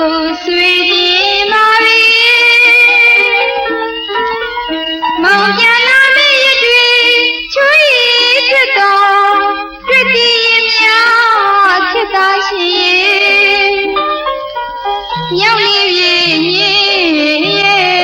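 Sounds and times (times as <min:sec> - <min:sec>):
woman singing with vibrato: 0:00.0 - 0:03.7, 0:05.2 - 0:14.0, 0:15.1 - 0:18.0
instrumental backing music: 0:00.0 - 0:18.0.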